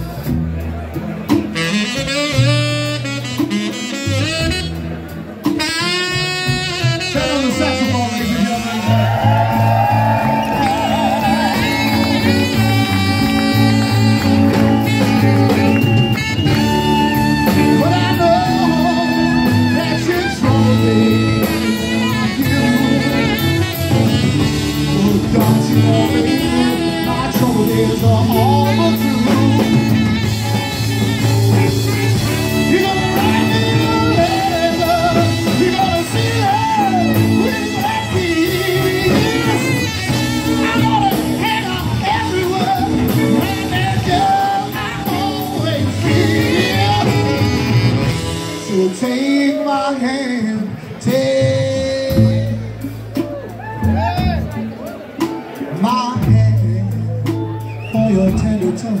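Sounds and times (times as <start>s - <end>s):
rockabilly band playing: 0.0s - 59.0s.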